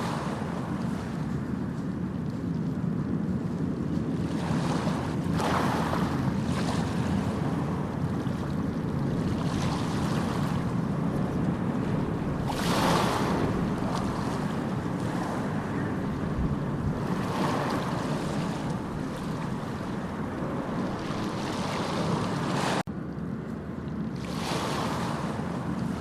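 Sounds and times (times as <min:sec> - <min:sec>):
sea waves breaking: 0:00.0 - 0:22.9, 0:23.7 - 0:26.0
steady low rumble: 0:00.0 - 0:24.4.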